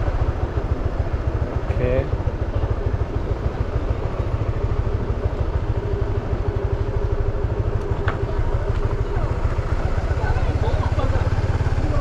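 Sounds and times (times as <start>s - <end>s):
vehicle rumble on road: 0.0s - 12.0s.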